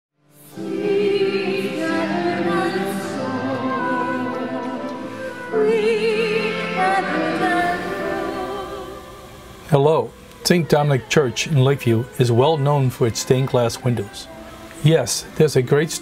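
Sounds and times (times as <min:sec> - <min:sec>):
church choir singing: 0:00.4 - 0:16.0
digital piano: 0:00.5 - 0:16.0.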